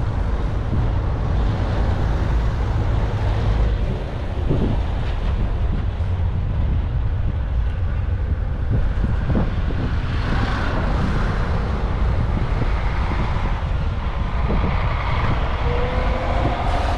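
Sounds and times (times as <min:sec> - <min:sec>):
air rushing around aircraft: 0:00.0 - 0:16.9
jet engines rumbling: 0:00.0 - 0:16.9.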